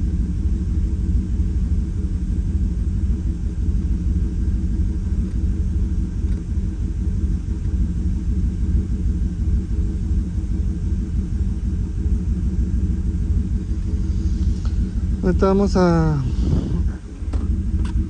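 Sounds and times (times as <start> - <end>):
truck engine idling unevenly: 0.0 - 18.0.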